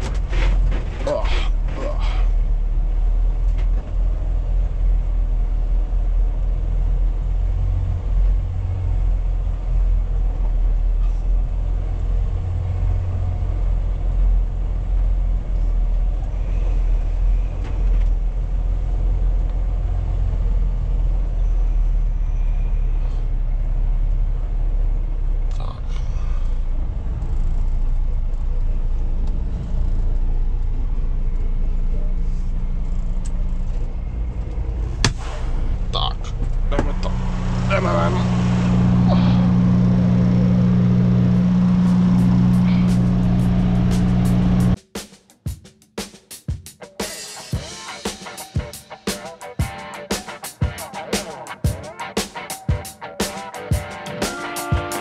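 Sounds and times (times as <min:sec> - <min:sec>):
diesel truck engine running low: 0:00.0 - 0:44.8.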